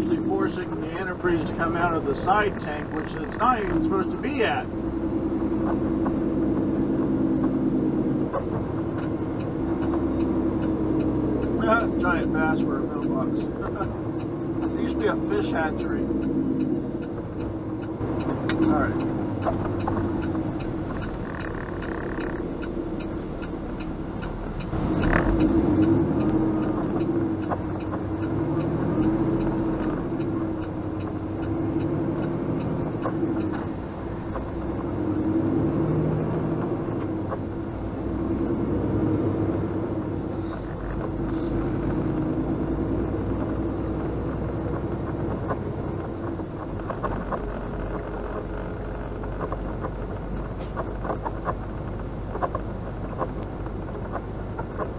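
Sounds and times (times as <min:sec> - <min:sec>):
truck diesel engine driving: 0:00.0 - 0:54.9.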